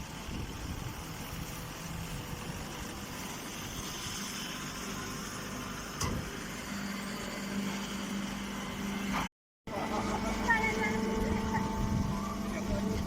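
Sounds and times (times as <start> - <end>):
baler machinery humming: 0.0 - 13.0.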